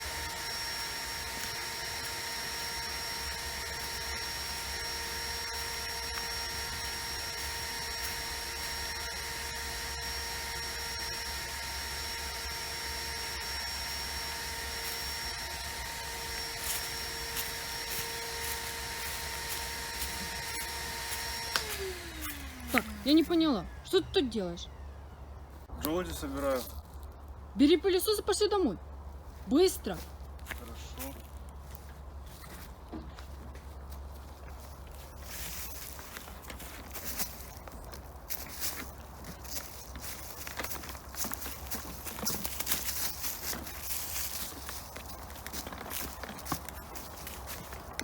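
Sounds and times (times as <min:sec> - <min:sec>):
vacuum cleaner whining: 0:00.0 - 0:25.2, 0:34.6 - 0:48.0.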